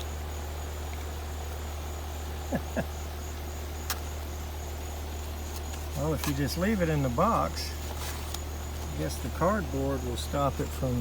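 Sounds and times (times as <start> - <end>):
crickets chirping: 0.0 - 11.0
heat pump electrical hum: 0.0 - 11.0.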